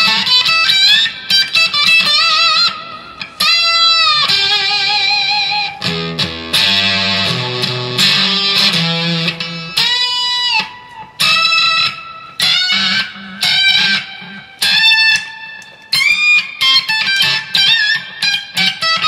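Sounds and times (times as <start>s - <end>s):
electric guitar played loud: 0.0s - 19.0s.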